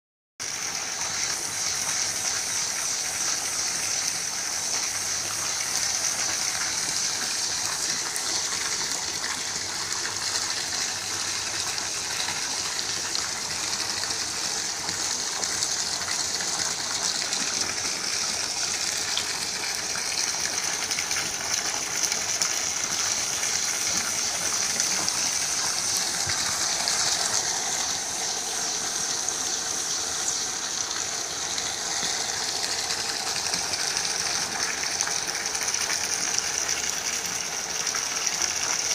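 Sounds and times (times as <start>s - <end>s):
water pouring and splashing: 0.4s - 38.9s.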